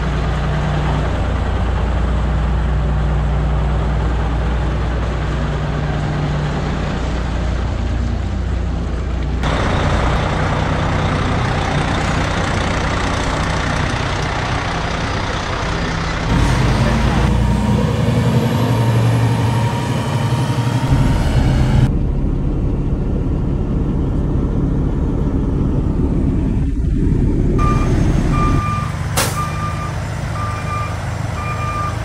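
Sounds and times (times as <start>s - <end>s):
diesel truck engines running: 0.0s - 32.0s
road noise: 0.0s - 32.0s.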